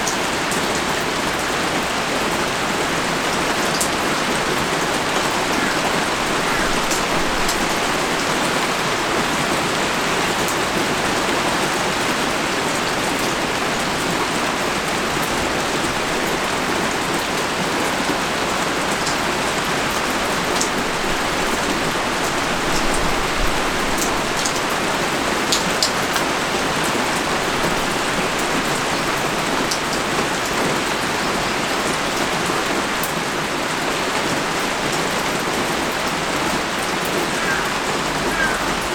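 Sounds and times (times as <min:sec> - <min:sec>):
heavy rain pouring: 0:00.0 - 0:38.9
raindrops ticking close by: 0:00.0 - 0:38.9.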